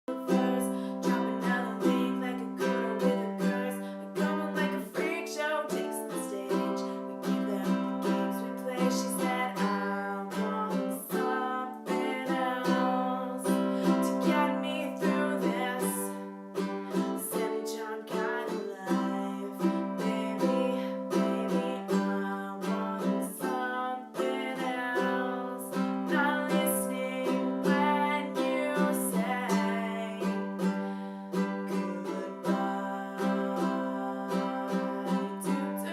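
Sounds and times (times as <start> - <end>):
plucked string instrument tune: 0.0 - 35.9.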